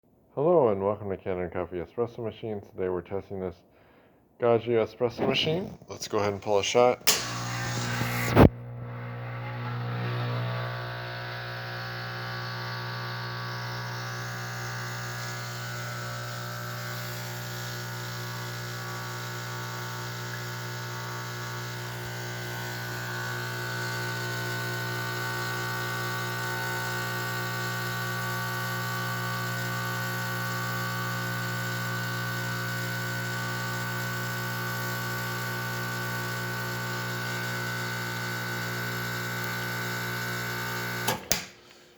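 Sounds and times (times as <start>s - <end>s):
espresso machine pump buzzing: 7.0s - 41.6s.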